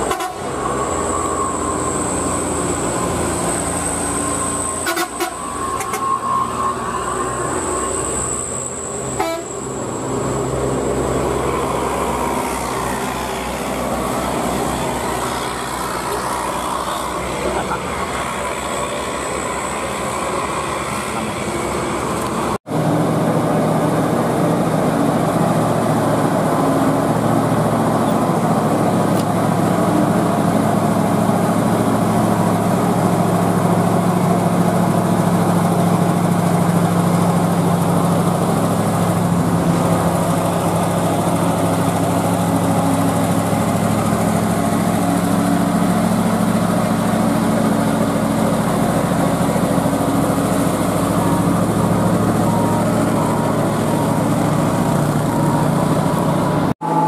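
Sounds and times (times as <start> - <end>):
diesel truck engine idling: 0.0 - 57.0
road traffic passing: 0.0 - 57.0.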